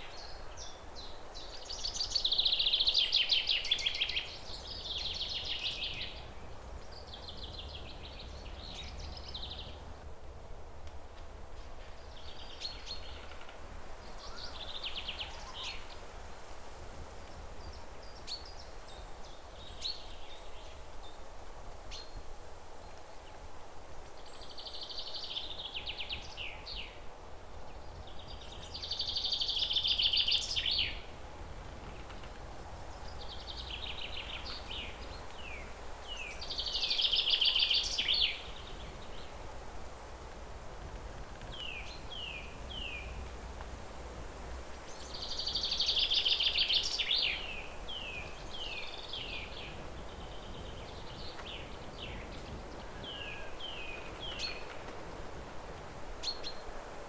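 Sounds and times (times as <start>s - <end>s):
low background noise: 0.0s - 57.0s.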